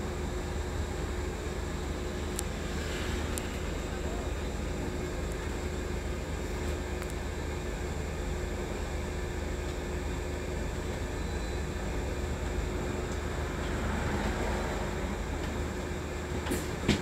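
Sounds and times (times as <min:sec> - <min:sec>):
bus road rumble: 0:00.0 - 0:17.0
faint constant hum: 0:00.0 - 0:17.0.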